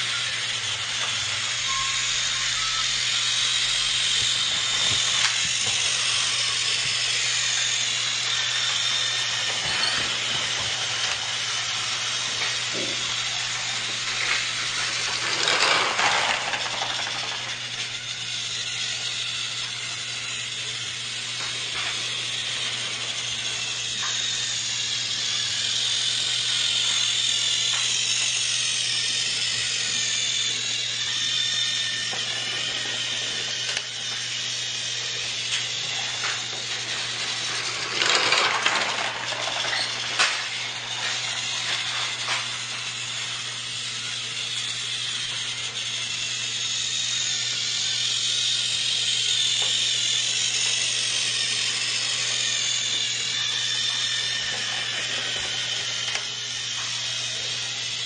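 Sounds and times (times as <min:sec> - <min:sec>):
toy train motor whirring: 0:00.0 - 0:58.0
toy train rattling: 0:00.0 - 0:58.0.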